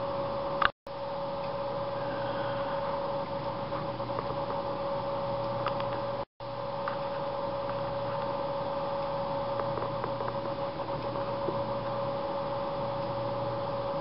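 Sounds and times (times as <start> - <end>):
mechanical hum and whine: 0.0 - 14.0.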